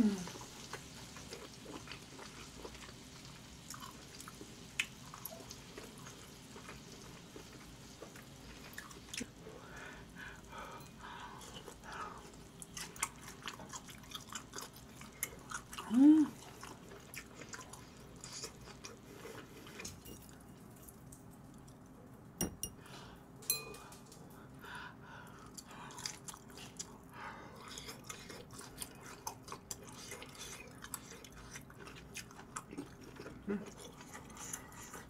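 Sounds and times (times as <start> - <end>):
chewing steak: 0.3 - 9.5, 10.2 - 22.0, 25.3 - 35.0.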